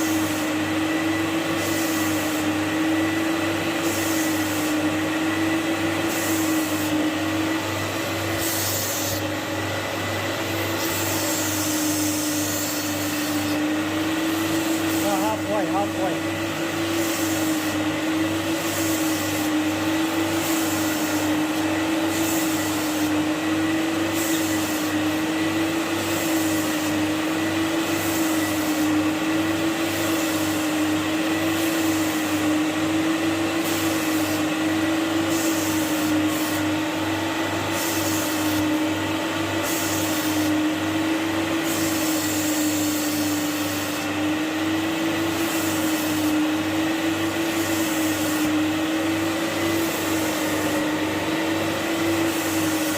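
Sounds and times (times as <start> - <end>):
vacuum motors humming: 0.0 - 52.9.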